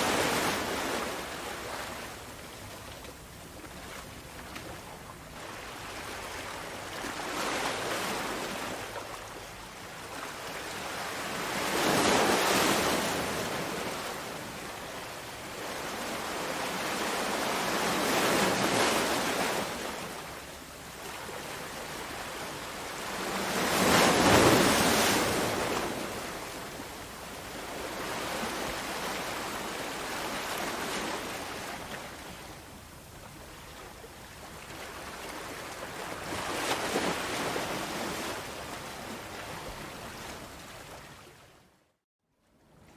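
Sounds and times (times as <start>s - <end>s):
sea waves breaking on shore: 0.0s - 32.7s, 33.3s - 41.6s.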